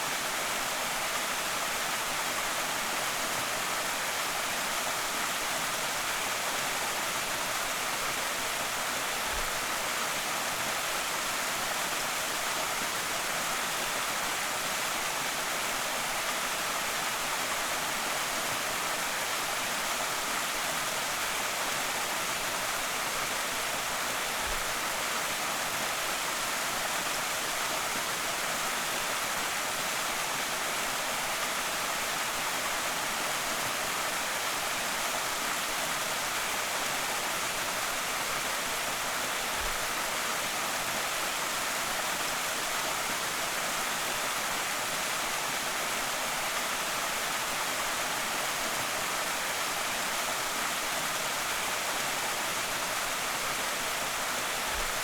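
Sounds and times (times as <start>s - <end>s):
waterfall rushing and splashing: 0.0s - 55.0s.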